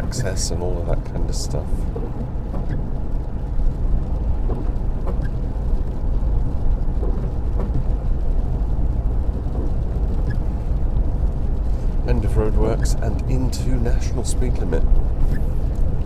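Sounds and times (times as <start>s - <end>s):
tyre and engine rumble: 0.0s - 16.0s.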